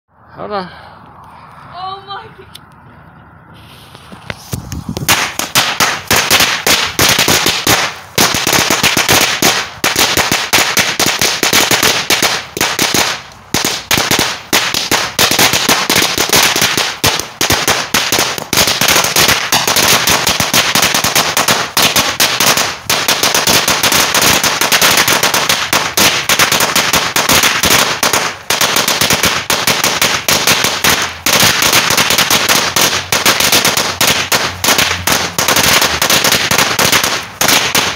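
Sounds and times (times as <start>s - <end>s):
firecrackers crackling: 3.6s - 37.9s.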